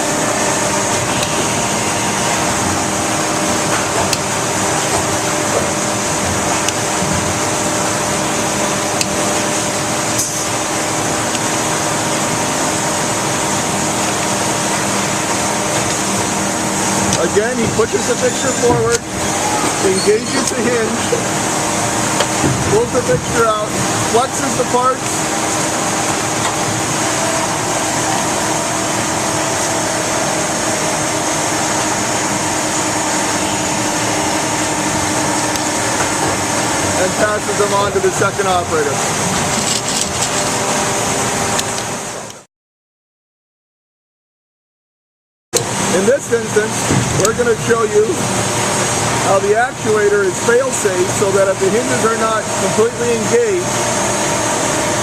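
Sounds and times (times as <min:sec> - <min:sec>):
factory machinery hum: 0:00.0 - 0:42.4, 0:45.6 - 0:55.0.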